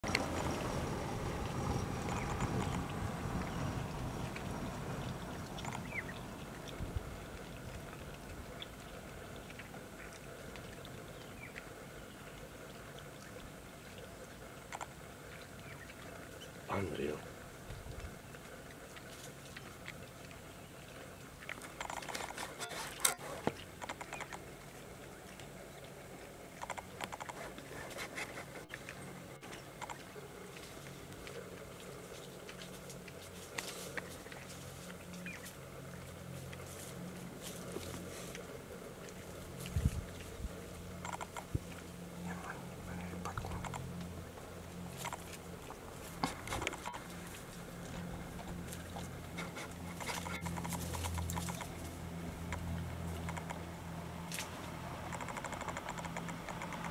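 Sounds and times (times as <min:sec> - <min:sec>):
animal chewing with crunches: 0:00.0 - 0:56.9.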